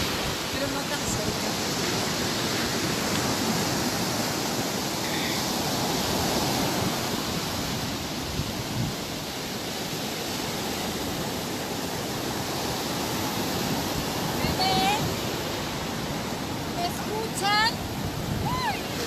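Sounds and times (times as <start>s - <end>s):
surf breaking on beach: 0.0s - 19.0s.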